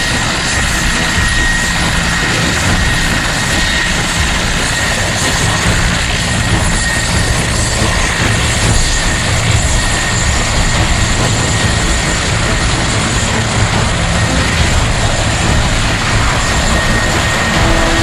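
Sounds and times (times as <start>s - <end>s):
helicopter turbine and rotor noise: 0.0s - 18.0s
steady whine: 0.0s - 18.0s.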